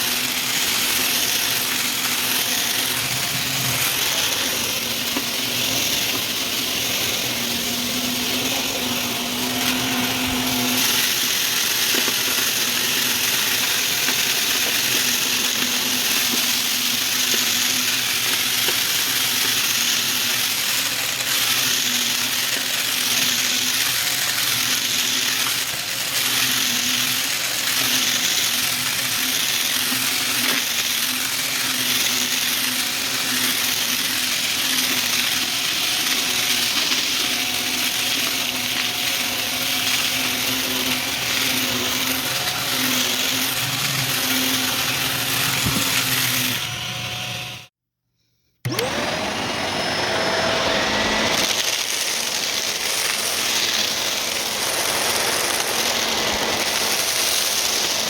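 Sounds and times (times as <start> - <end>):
vacuum cleaner running: 0.0 - 47.7, 48.6 - 58.0
vacuum motor whining up to speed: 0.0 - 47.7, 48.6 - 58.0.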